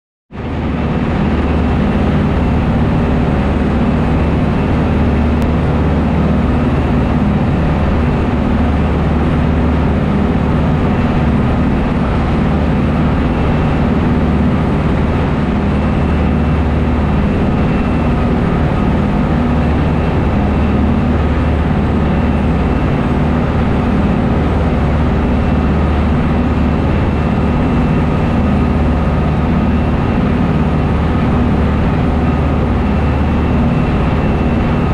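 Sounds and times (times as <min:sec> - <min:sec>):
boat engine drone: 0:00.3 - 0:34.9
churning wake rushing: 0:00.3 - 0:34.9
wind: 0:00.3 - 0:34.9.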